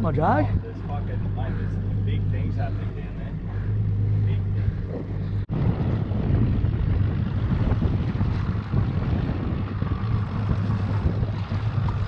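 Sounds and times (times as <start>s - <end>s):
steady low hum: 0.0s - 12.0s
water moving against boat: 0.0s - 12.0s
wind buffeting microphone: 0.0s - 12.0s.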